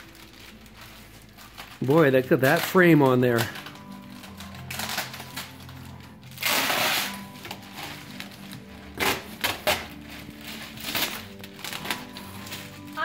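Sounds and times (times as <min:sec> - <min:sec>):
plastic wrap and cardboard rustling: 0:00.0 - 0:13.0
sharp plastic crackles: 0:00.0 - 0:13.0.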